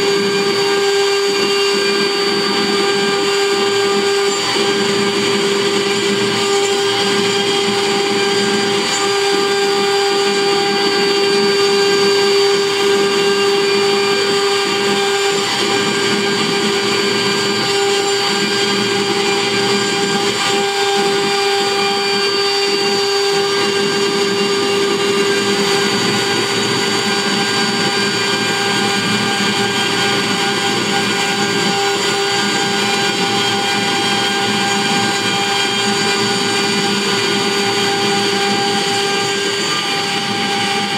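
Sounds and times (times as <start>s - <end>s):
bit cutting wood: 0.0s - 40.9s
router spindle whining: 0.0s - 40.9s.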